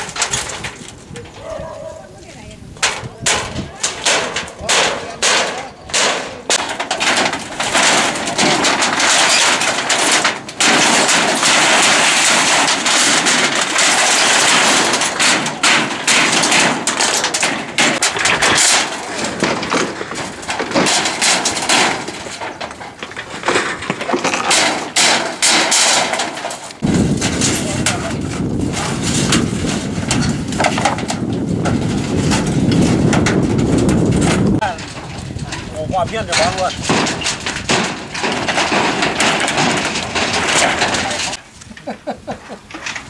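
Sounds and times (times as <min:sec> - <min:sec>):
metal roofing sheets banging: 0:00.0 - 0:41.4
metallic rattling: 0:00.0 - 0:41.4.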